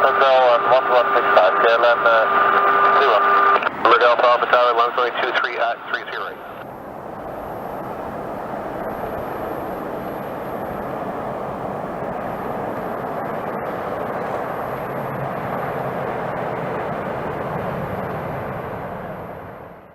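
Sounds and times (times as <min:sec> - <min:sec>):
jet airliner engine rushing: 0:00.0 - 0:19.9.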